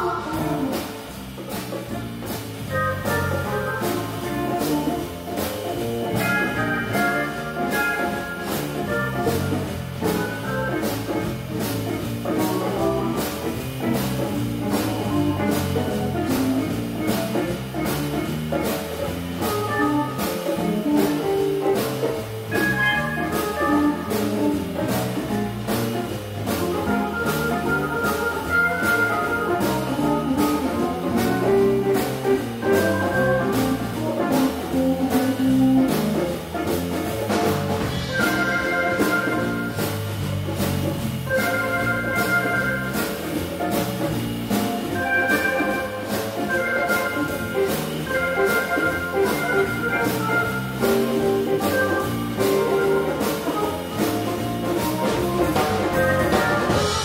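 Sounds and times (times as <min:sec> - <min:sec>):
jazz big band playing blues: 0:00.0 - 0:57.0.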